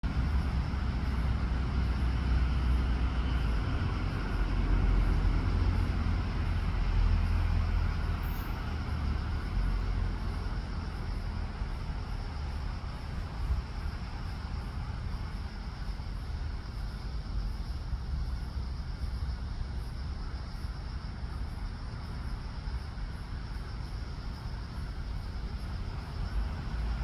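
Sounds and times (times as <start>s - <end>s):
background hiss: 0.0s - 27.0s
steady low rumble: 0.0s - 27.0s.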